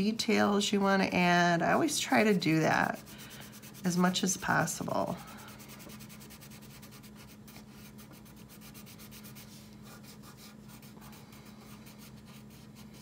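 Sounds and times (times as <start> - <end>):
crayon scratching on paper: 2.1 - 13.0.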